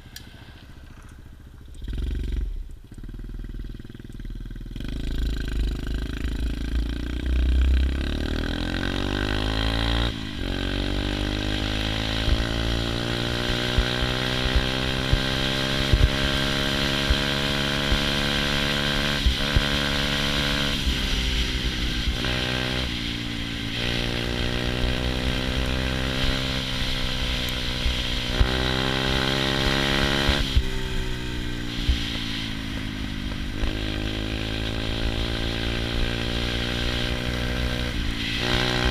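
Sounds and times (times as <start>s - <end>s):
small motorbike engine revving: 4.6s - 38.9s.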